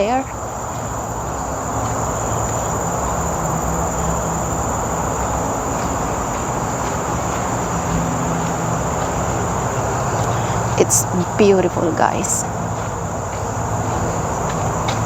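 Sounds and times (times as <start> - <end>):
insects buzzing: 0.0 - 15.0
traffic rumble: 0.0 - 15.0.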